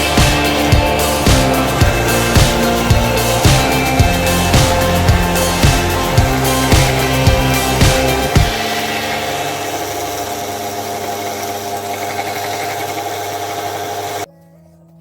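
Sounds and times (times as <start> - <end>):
power tool running: 0.0 - 14.3.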